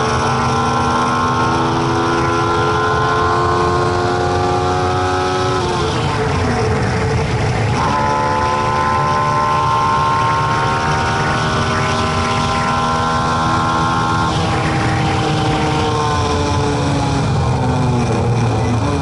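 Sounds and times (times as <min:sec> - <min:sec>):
race car engine from inside cabin: 0:00.0 - 0:19.0.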